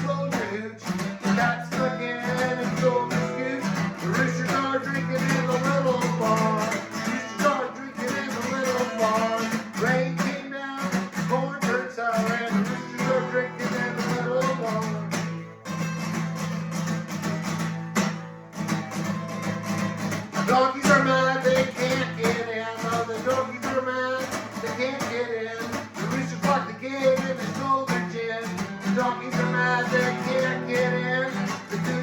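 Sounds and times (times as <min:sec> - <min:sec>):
strummed acoustic guitar music: 0:00.0 - 0:32.0.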